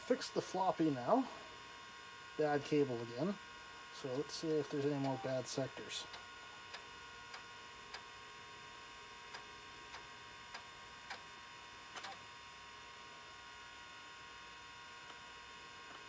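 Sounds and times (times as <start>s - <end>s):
hard drive spinning hum and whine: 0.0s - 16.0s.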